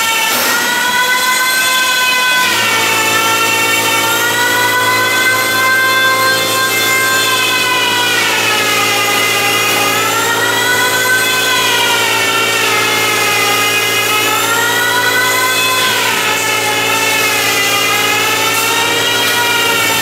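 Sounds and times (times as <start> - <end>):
power tool cutting wood: 0.0 - 20.0.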